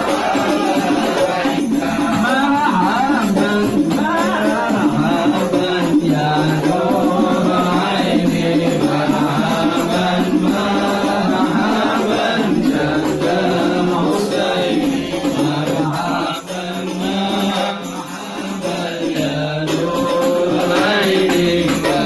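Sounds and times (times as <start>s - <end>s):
group chanting in unison: 0.0s - 22.0s.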